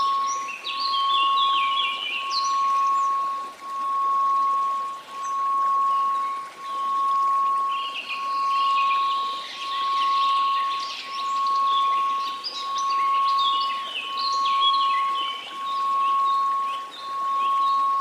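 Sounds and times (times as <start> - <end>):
high tinkling notes: 0.0 - 18.0
pure tone: 0.0 - 18.0.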